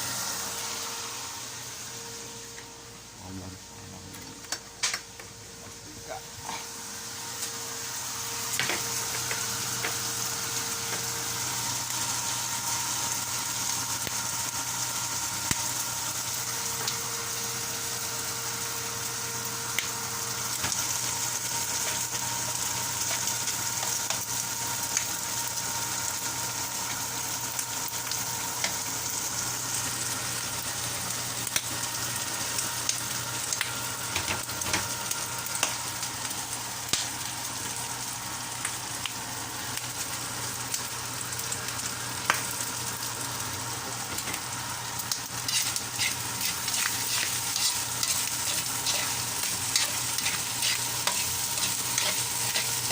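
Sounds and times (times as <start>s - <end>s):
food sizzling in a pan: 0.0s - 3.1s, 5.4s - 52.9s.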